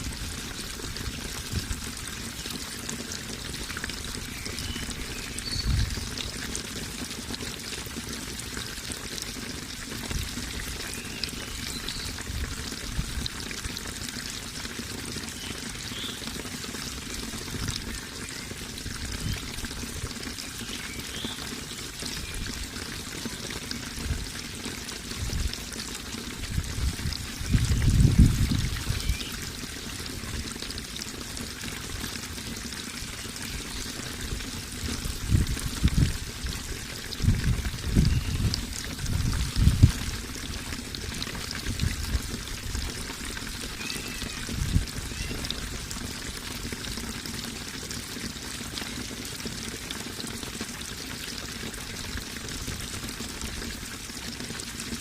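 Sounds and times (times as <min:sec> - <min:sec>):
low rumbling water surges: 0:00.0 - 0:55.0
water trickling and pouring: 0:00.0 - 0:55.0.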